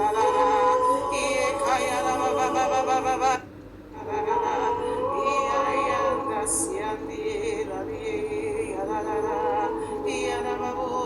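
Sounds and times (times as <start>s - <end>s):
woman singing wavering notes: 0.0s - 3.4s, 4.0s - 11.0s.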